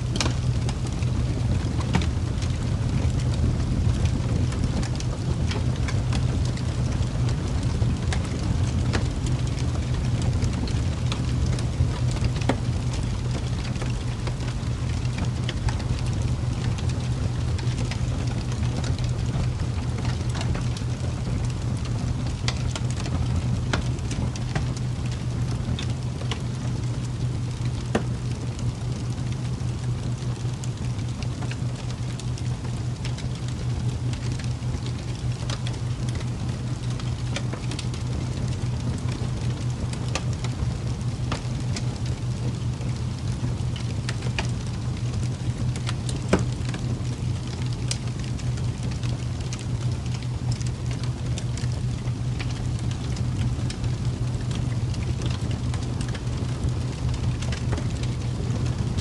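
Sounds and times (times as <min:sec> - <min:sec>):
fire crackling and popping: 0:00.0 - 0:59.0
low fire rumble: 0:00.0 - 0:59.0.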